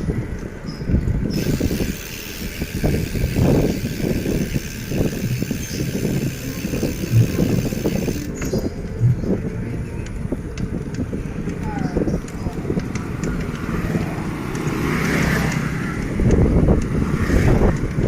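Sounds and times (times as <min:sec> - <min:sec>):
bicycle road rumble: 0:00.0 - 0:18.0
wind buffeting microphone: 0:00.0 - 0:18.0.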